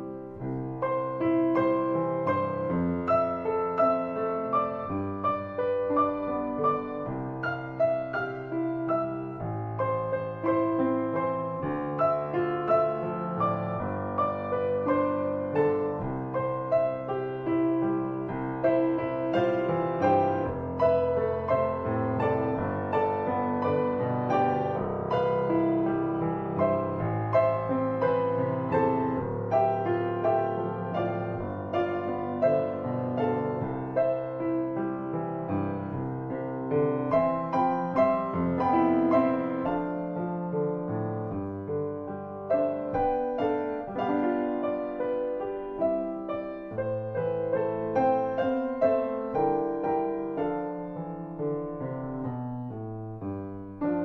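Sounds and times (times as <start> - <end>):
gentle piano melody: 0.0 - 54.0.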